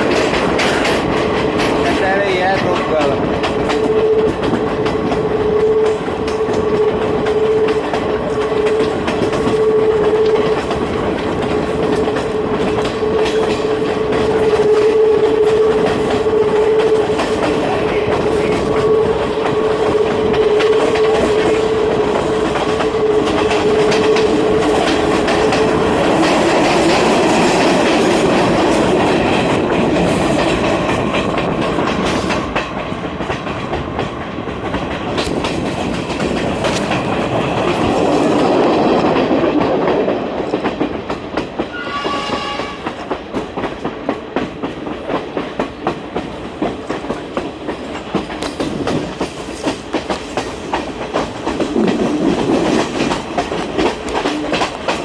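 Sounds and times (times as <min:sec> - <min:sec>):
train rumble: 0:00.0 - 0:55.0
train wheels clicking over rail joints: 0:00.0 - 0:55.0.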